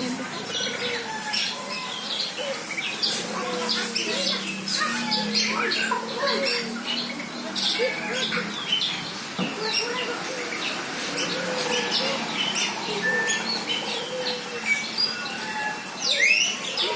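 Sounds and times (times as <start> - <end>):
lower wavering bird calls: 0.0 - 16.9
small birds chirping: 0.0 - 16.9.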